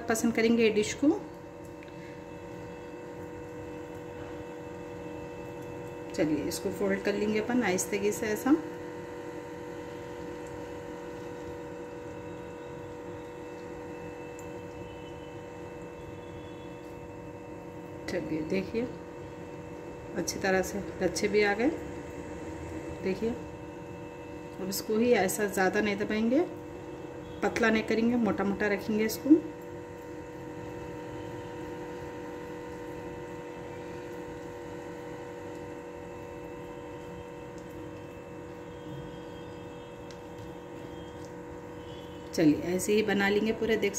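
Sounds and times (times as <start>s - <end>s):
steady background hum: 0.0s - 43.9s.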